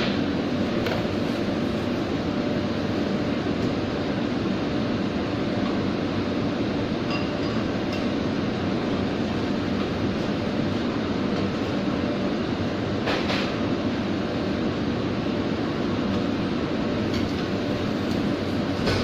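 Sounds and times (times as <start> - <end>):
kitchen range and extractor roar: 0.0 - 19.0.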